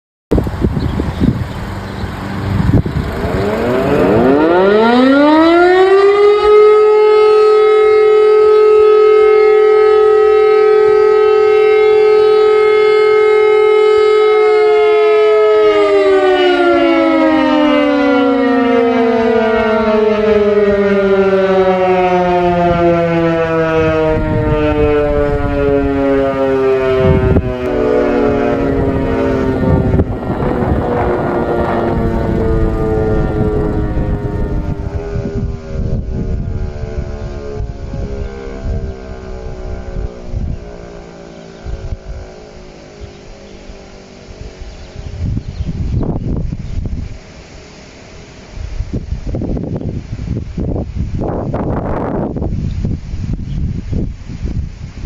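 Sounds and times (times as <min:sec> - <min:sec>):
civil defence siren winding: 0:02.2 - 0:52.4.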